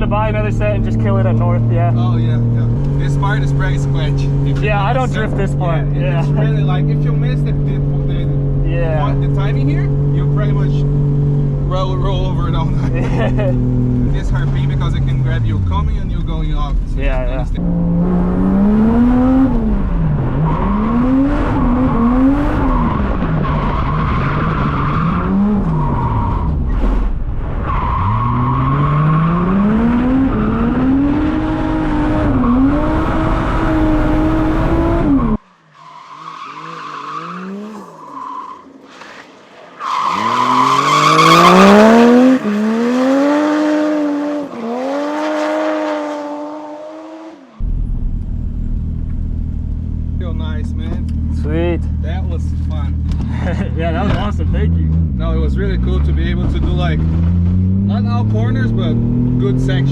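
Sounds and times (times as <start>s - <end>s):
tyres skidding and squealing: 0.0s - 47.4s, 50.5s - 59.9s
car engine revving: 0.0s - 59.9s.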